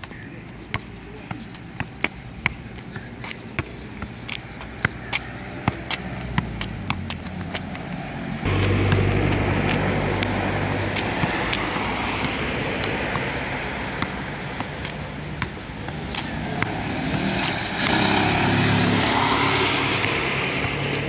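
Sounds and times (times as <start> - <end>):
football tapping on foot and asphalt: 0.0 - 21.0
motor vehicle engine hum: 0.0 - 21.0.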